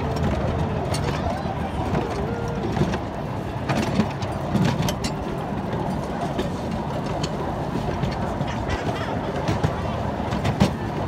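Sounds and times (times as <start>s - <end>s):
ride train rumbling: 0.0s - 11.0s.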